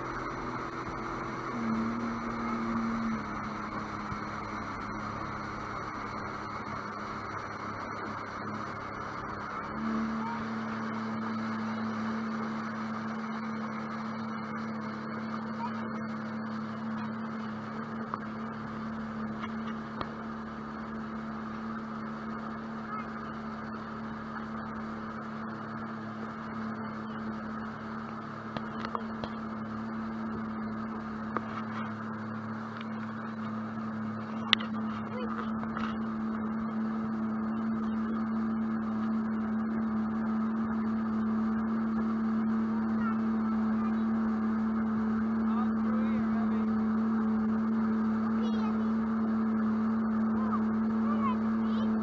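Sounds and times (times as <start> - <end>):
boat engine droning: 0.0 - 52.0
water rushing along hull: 0.0 - 52.0
wind: 0.0 - 52.0.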